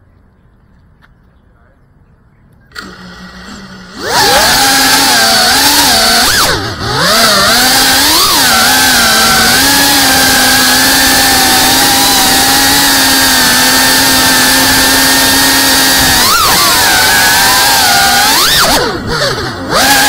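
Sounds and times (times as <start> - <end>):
quadcopter propellers whining: 2.6 - 20.0.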